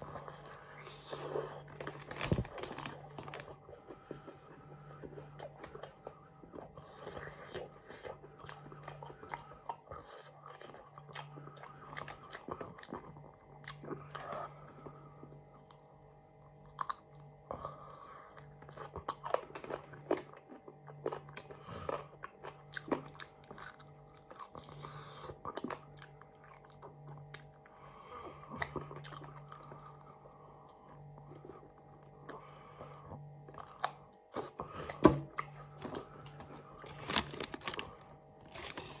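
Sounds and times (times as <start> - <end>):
crunchy chewing of fried fish: 0.0 - 39.0
faint steady hum: 0.0 - 39.0.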